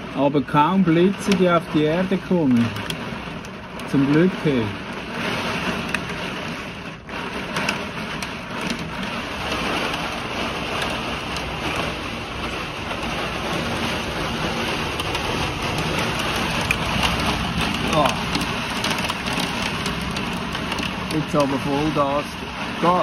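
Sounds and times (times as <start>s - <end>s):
rain and hail drumming on vehicle: 0.0s - 23.0s.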